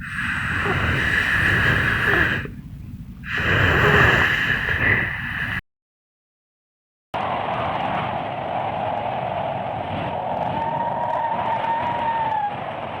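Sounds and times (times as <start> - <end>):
low steady wind: 0.0 - 5.6, 7.2 - 13.0
whistling wind gusts: 0.0 - 5.6, 7.2 - 13.0.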